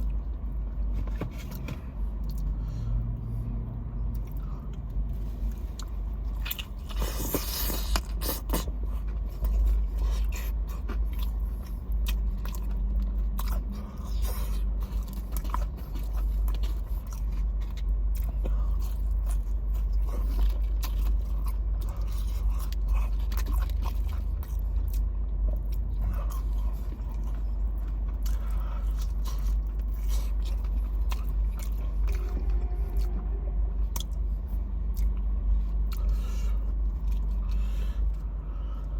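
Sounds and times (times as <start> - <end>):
chewing crunchy food: 0.0 - 38.9
steady low hum: 0.0 - 38.9.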